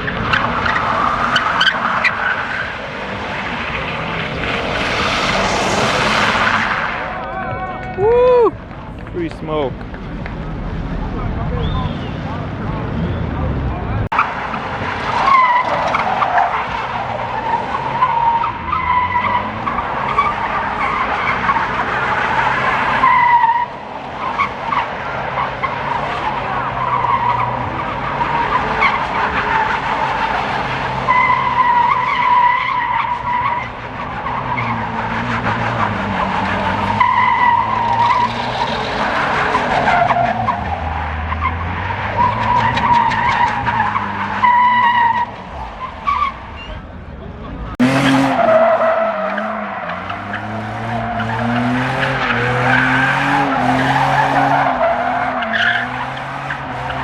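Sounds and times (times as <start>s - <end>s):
car engine revving: 0.0s - 7.4s, 9.4s - 57.0s.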